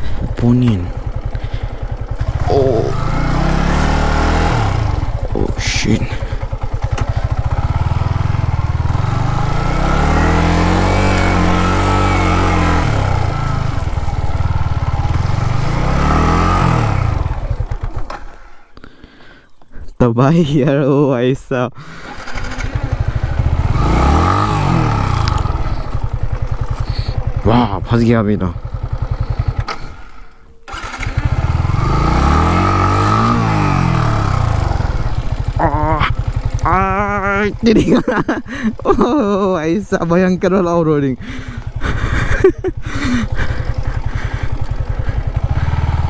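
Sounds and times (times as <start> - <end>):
motorcycle engine revving: 0.0 - 18.7, 21.9 - 46.0.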